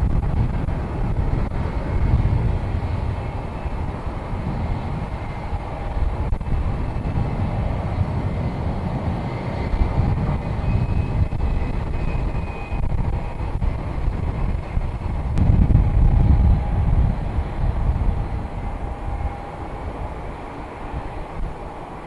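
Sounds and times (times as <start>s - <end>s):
high engine whine: 0.0s - 22.0s
jet engines running: 0.0s - 22.0s
wind buffeting microphone: 0.0s - 22.0s.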